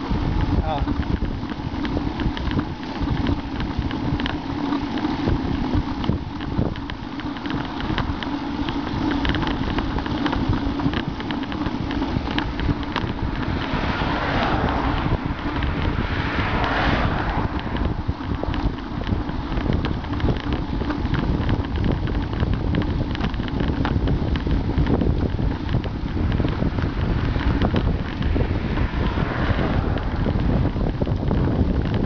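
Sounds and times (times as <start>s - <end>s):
small clicks and rattles: 0.0s - 32.0s
tyres humming on asphalt: 0.0s - 32.0s
wind buffeting microphone: 0.0s - 32.0s.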